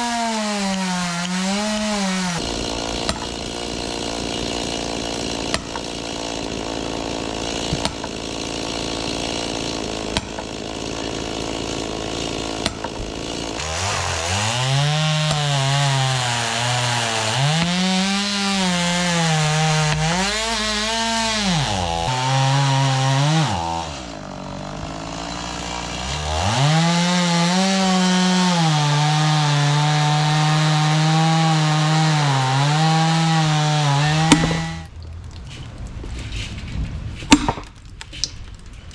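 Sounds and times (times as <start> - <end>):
chainsaw cutting wood: 0.0 - 35.0, 37.1 - 38.7.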